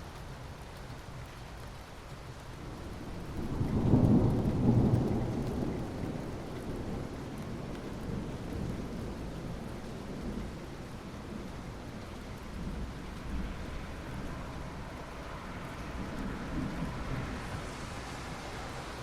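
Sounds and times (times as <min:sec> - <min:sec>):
steady rain: 0:00.0 - 0:19.0
low roll of thunder: 0:02.6 - 0:19.0.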